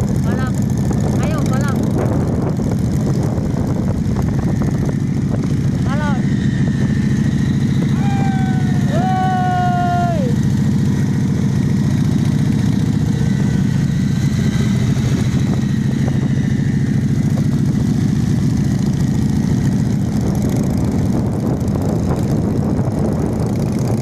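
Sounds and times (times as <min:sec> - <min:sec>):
motorcycle engines running: 0:00.0 - 0:24.0.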